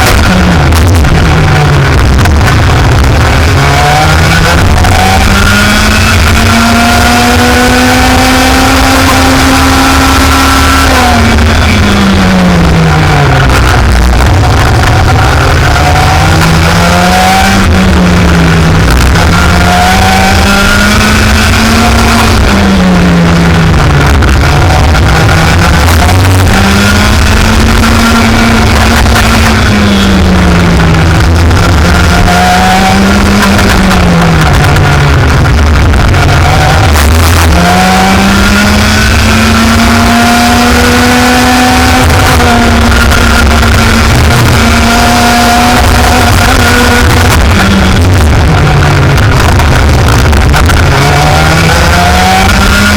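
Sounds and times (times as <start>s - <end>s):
racing kart engine: 0.0s - 52.9s.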